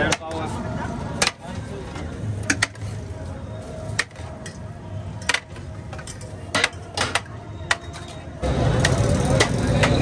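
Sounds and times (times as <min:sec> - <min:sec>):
metal utensils clinking on pots: 0:00.0 - 0:03.1, 0:03.9 - 0:10.0.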